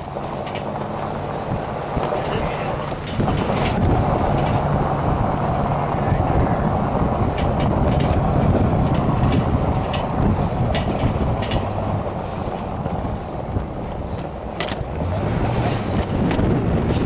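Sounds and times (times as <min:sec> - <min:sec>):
freight train rumbling: 0:00.0 - 0:17.0.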